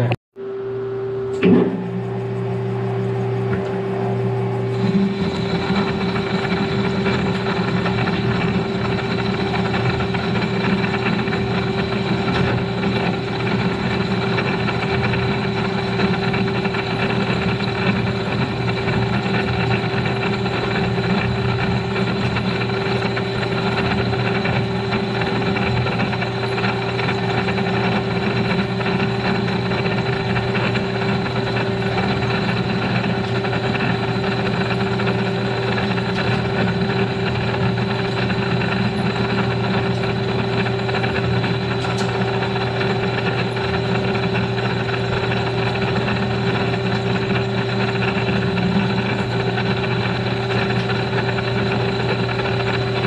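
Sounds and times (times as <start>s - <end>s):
metal lathe humming and whining: 0.4s - 53.0s.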